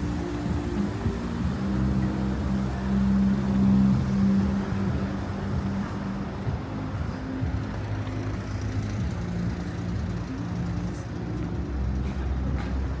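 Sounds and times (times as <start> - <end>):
city traffic: 0.0 - 13.0
vehicle engine humming: 0.0 - 13.0.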